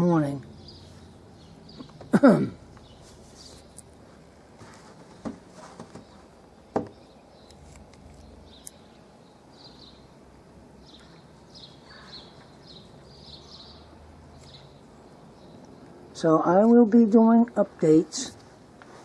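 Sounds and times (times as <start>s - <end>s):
small birds chirping: 0.0s - 4.0s, 5.6s - 18.4s
low outdoor hiss: 0.0s - 19.0s.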